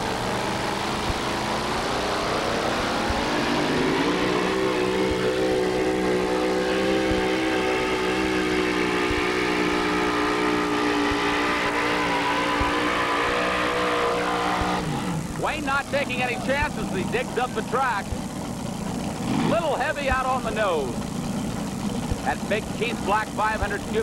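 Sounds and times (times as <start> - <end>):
engine revving under load: 0.0 - 24.0.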